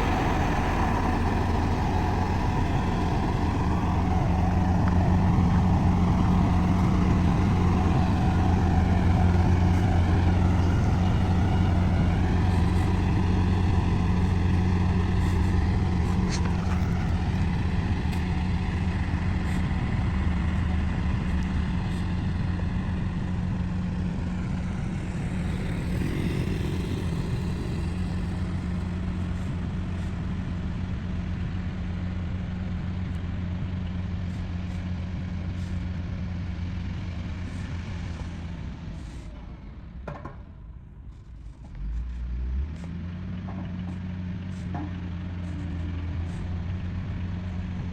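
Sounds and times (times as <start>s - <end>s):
bulldozer diesel engine humming: 0.0s - 47.9s.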